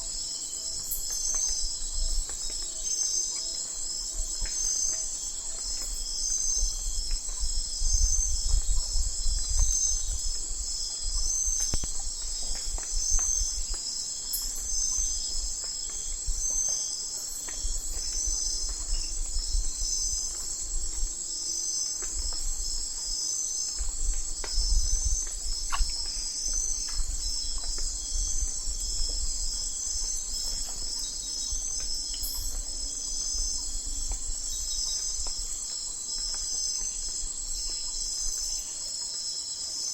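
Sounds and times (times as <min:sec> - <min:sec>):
crickets and insects chirring: 0:00.0 - 0:39.9.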